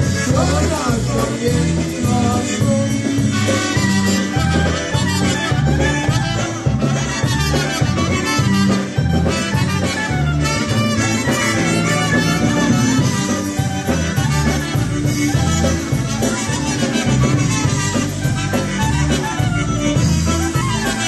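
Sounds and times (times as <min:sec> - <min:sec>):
polka band playing: 0:00.0 - 0:21.0.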